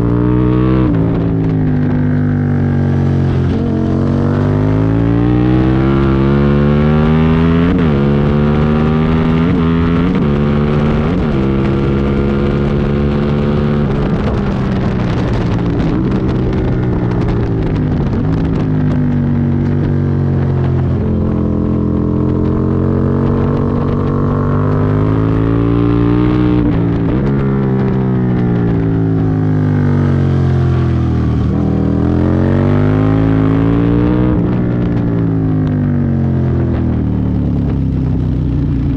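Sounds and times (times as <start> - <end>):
motorcycle engine revving: 0.0 - 38.9
wind rush: 0.0 - 38.9.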